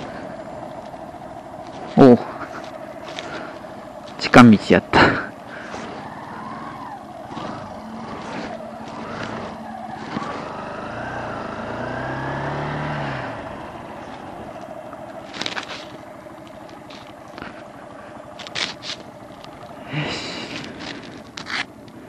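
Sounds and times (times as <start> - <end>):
motorcycle engine accelerating: 0.0 - 22.0
wind and road noise: 0.0 - 22.0.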